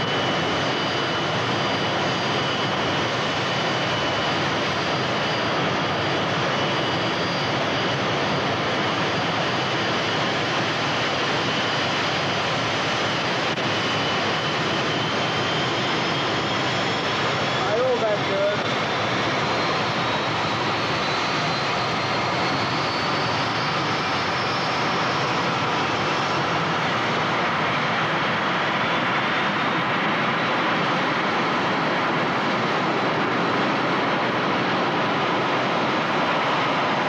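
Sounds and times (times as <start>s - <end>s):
jet engine rush: 0.0s - 37.0s.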